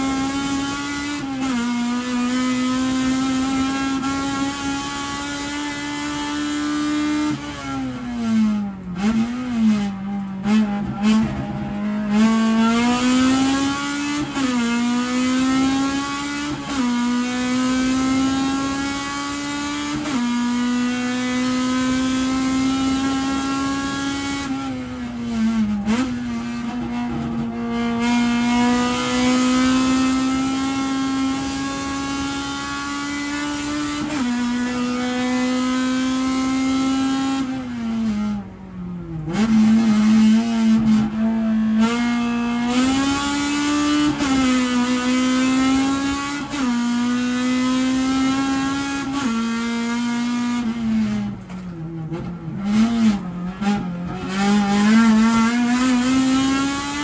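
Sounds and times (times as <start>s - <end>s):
race car engine shifting gears: 0.0s - 57.0s.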